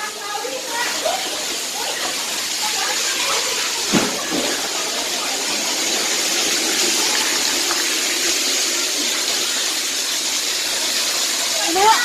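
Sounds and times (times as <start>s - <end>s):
heavy rain: 0.0s - 12.0s
water pouring through roof: 0.0s - 12.0s.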